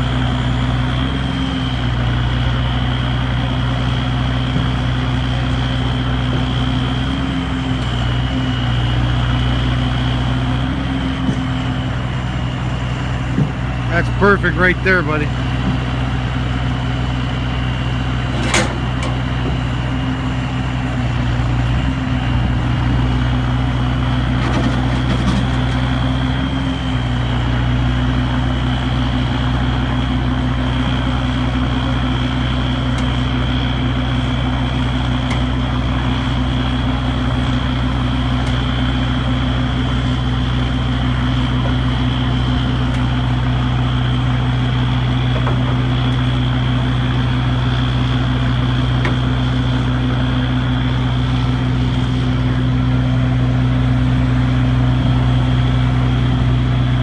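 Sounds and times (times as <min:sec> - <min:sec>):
hydraulic high whine: 0:00.0 - 0:57.0
truck engine hum: 0:00.0 - 0:57.0.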